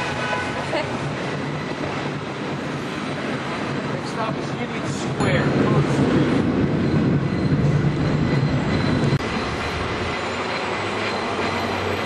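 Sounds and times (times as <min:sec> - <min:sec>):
tram clattering on rails: 0:00.0 - 0:12.0.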